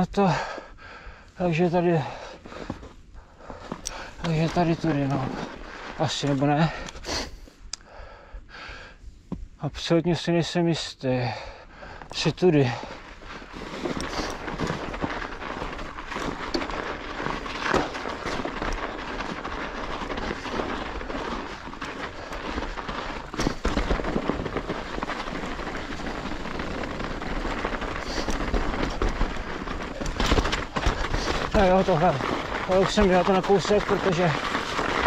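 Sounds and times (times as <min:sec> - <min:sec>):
bike tyres rushing over snow: 0:00.0 - 0:08.2, 0:11.3 - 0:35.0
bike rattling over rough ground: 0:01.4 - 0:07.3, 0:11.4 - 0:35.0.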